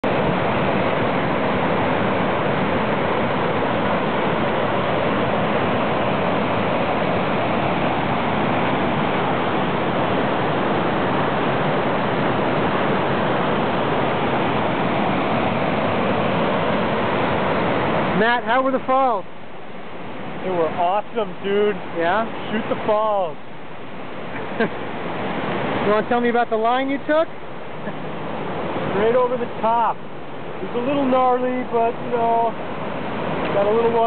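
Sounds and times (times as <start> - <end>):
waterfall rushing over rocks: 0.0 - 34.0.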